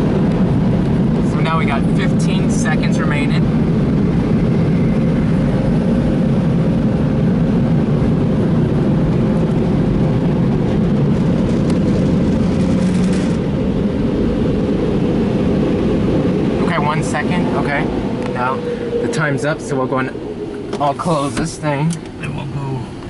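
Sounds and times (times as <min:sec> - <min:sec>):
blower dryers roaring: 0:00.0 - 0:23.0.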